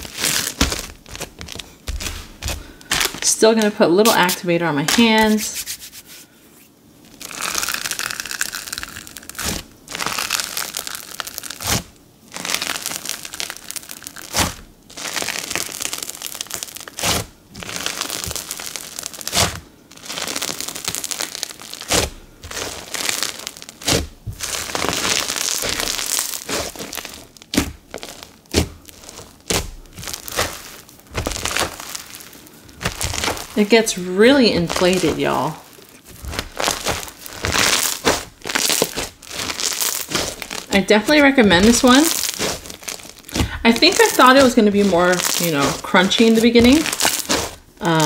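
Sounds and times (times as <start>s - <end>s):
slime popping: 0.0s - 6.0s, 7.1s - 48.0s
slime crackling: 0.0s - 48.0s.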